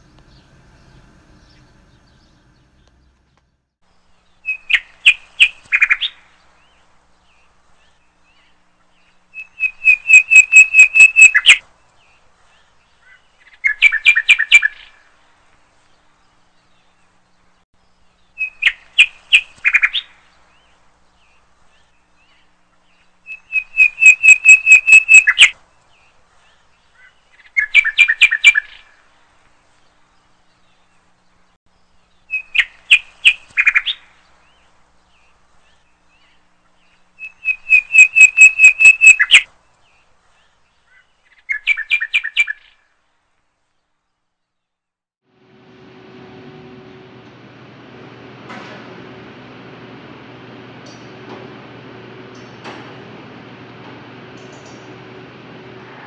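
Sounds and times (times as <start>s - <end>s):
songbird singing: 0.0s - 43.1s, 49.5s - 56.0s.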